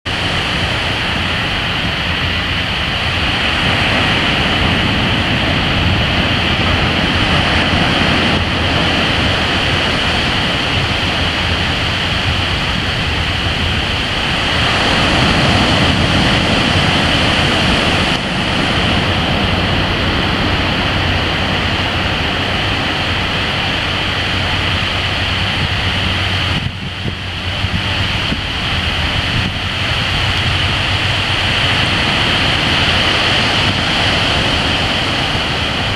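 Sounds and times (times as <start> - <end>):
ocean surf breaking: 0.1 - 35.9.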